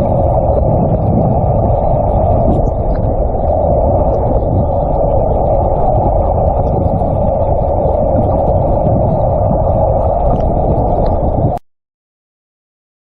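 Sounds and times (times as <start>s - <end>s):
steady rushing noise: 0.0s - 11.6s.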